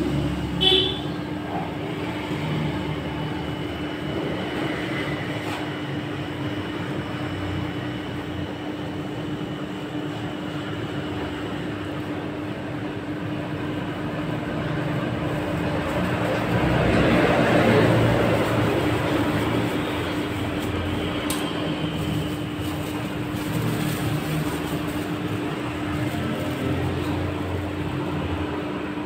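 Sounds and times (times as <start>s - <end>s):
refrigeration unit humming: 0.0s - 29.0s.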